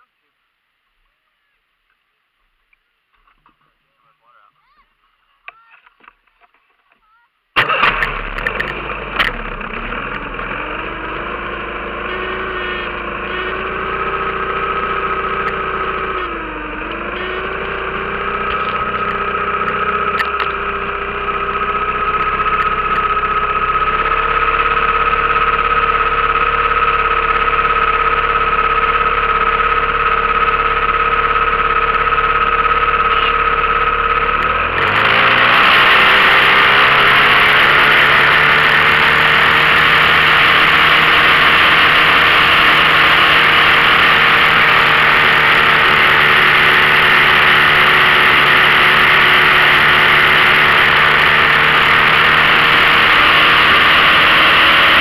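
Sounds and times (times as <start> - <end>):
outboard motor running: 7.6 - 55.0.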